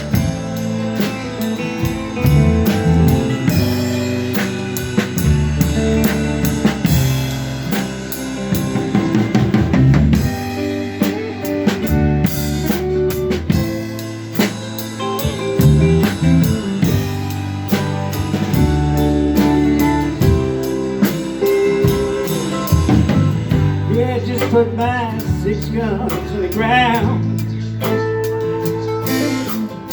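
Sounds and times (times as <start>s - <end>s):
drum kit: 0.0s - 29.9s
guitar with bent notes: 0.0s - 29.9s
live rock band playing: 0.0s - 29.9s.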